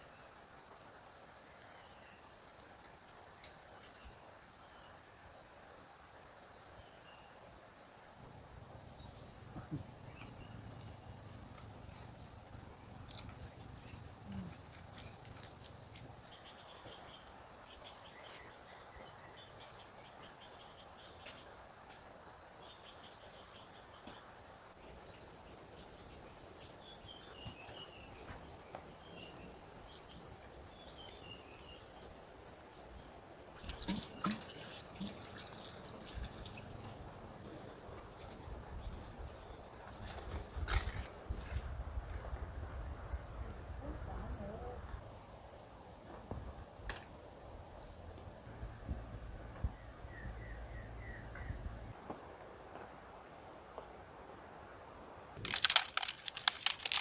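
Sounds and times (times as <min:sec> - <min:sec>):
insects trilling: 0:00.0 - 0:57.0
pulsing high insect layer: 0:00.0 - 0:57.0.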